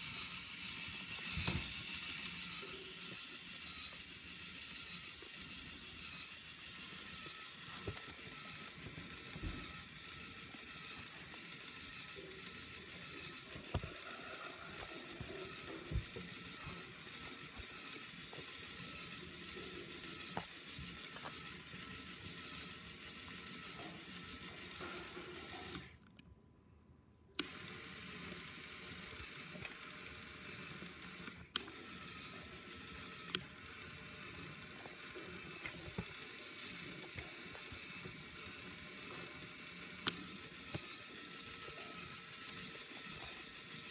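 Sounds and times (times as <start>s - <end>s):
toy motors whirring: 0.0s - 26.2s, 27.4s - 43.9s.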